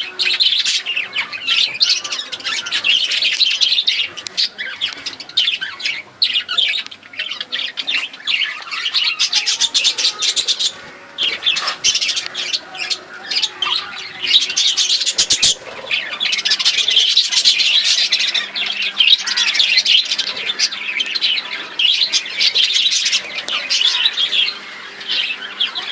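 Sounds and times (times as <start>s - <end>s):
budgerigars chattering and squawking: 0.0s - 25.9s.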